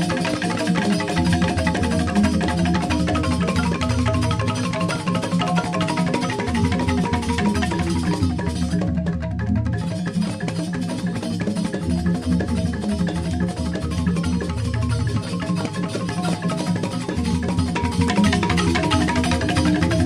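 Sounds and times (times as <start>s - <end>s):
bamboo xylophones struck: 0.0s - 20.0s
drums: 0.0s - 20.0s.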